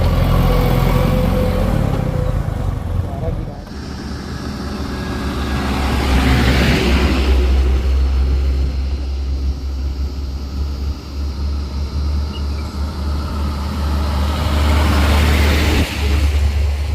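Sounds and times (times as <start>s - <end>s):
diesel engine rumbling: 0.0s - 16.9s.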